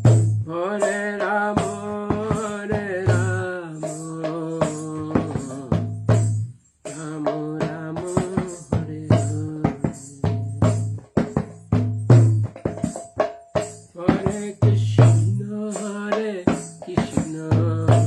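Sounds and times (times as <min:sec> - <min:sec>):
clicking hand percussion: 0:00.0 - 0:18.0
low drum beat: 0:01.2 - 0:15.6, 0:16.5 - 0:18.0.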